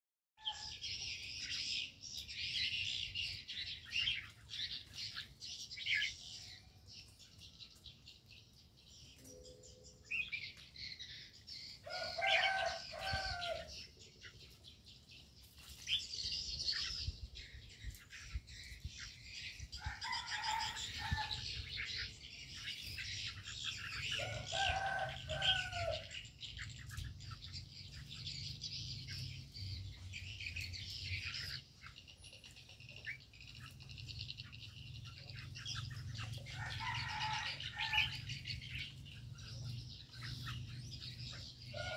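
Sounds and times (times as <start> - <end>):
small birds chirping: 0.4 - 41.9.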